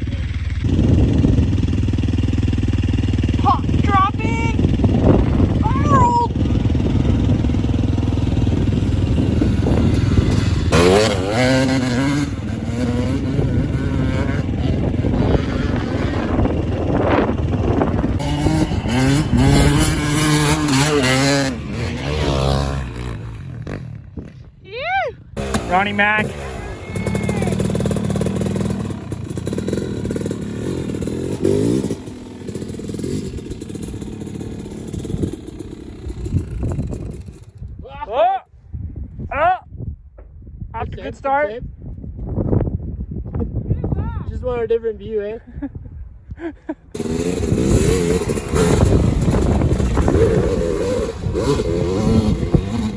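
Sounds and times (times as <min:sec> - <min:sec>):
dirt bike engine revving: 0:00.0 - 0:24.5, 0:25.4 - 0:37.5, 0:46.9 - 0:52.9.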